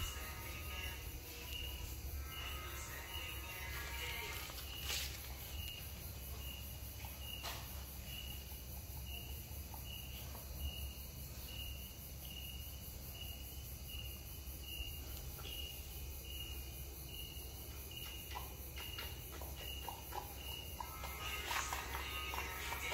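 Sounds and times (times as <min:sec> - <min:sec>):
cricket chirping: 0:00.0 - 0:22.9
low steady hum: 0:00.0 - 0:22.9.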